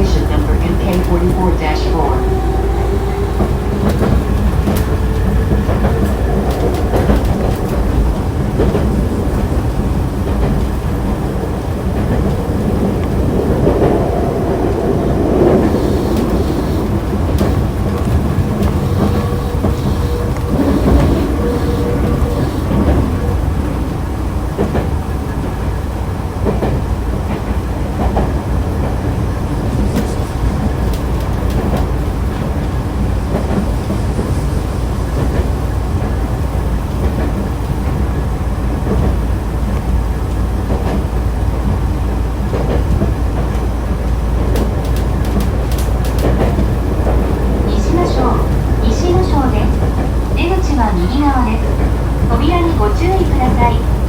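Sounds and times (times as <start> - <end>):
rail joint clicks: 0.0 - 54.0
train wheels rumbling on rails: 0.0 - 54.0.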